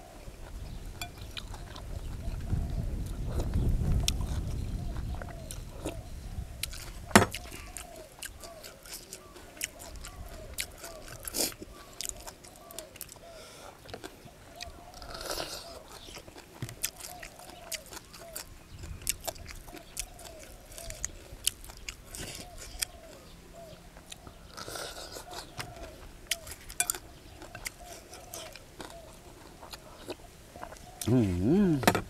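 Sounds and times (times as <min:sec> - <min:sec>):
person chewing crunchy food: 0:00.0 - 0:06.0, 0:06.6 - 0:23.3, 0:23.9 - 0:31.2.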